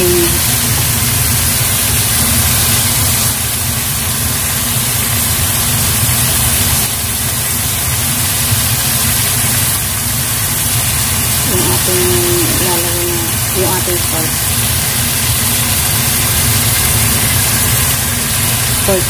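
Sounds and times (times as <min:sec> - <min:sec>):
stovetop cooking hiss: 0:00.0 - 0:19.0.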